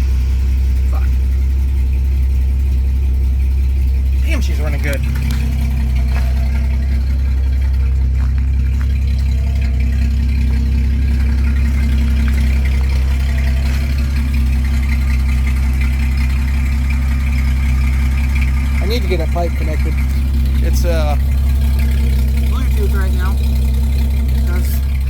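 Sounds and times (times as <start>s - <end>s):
engine idling without muffler: 0.0s - 25.0s.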